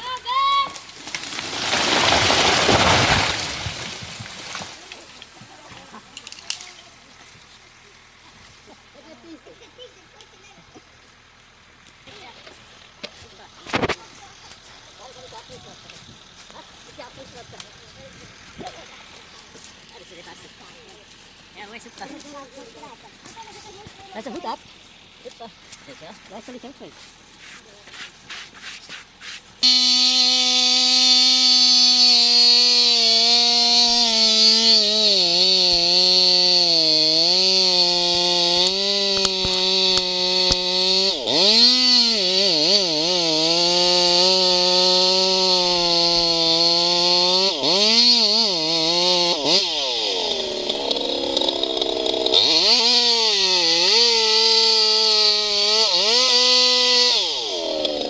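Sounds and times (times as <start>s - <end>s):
chainsaw cutting tree trunk: 0.0s - 9.2s, 11.1s - 25.9s, 29.0s - 58.0s.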